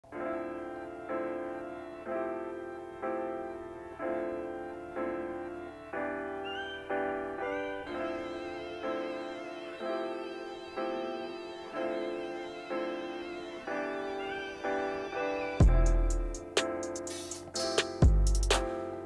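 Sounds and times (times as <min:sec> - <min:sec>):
instrumental keyboard chords: 0:00.0 - 0:19.0.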